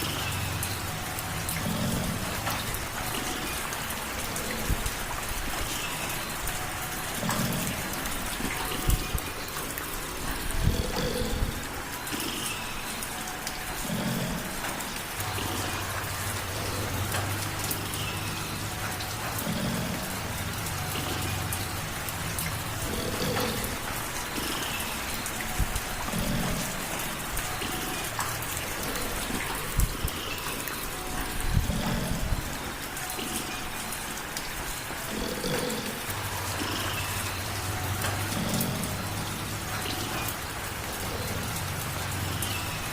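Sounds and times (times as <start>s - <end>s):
light rain on a surface: 0.0s - 42.9s.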